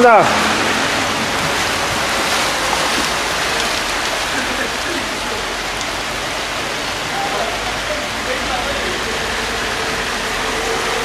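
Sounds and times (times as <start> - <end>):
heavy rain hitting standing water: 0.0 - 11.0.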